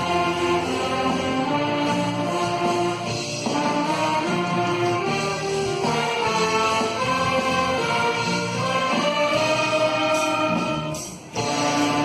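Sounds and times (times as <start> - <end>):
orchestra playing a hymn: 0.0 - 12.0.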